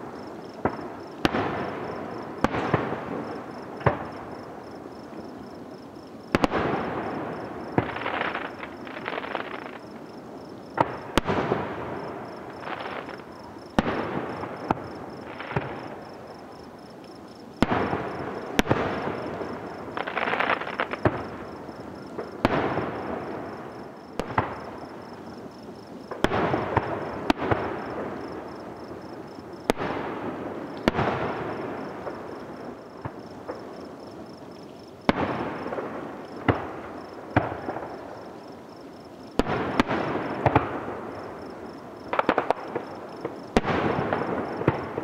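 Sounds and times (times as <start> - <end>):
fireworks bursting with echo: 0.0 - 5.3, 6.2 - 10.0, 10.6 - 17.0, 17.6 - 33.9, 35.0 - 38.3, 39.3 - 45.0.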